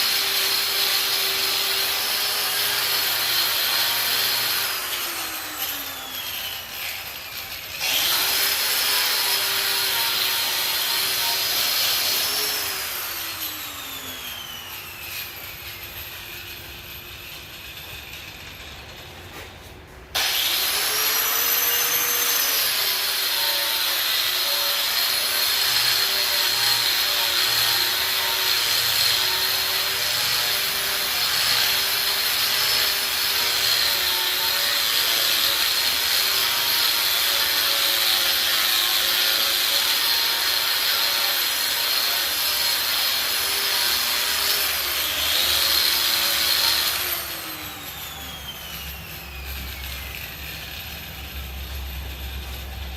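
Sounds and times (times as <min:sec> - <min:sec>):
angle grinder grinding steel: 0:00.0 - 0:52.9.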